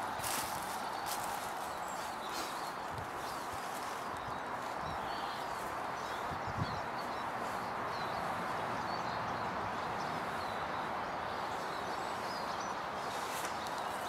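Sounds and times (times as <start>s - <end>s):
songbirds chirping: 0.0s - 14.0s
steady outdoor hiss: 0.0s - 14.0s.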